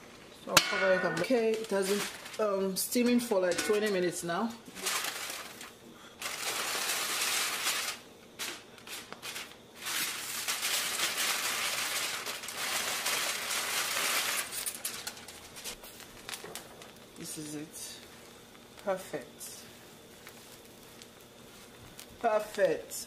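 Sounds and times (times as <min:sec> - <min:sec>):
aluminium foil crinkling: 0:00.5 - 0:23.0.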